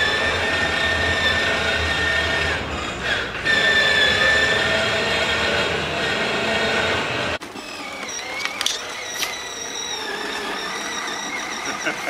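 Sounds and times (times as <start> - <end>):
toy electric motor whining: 0.0 - 12.0.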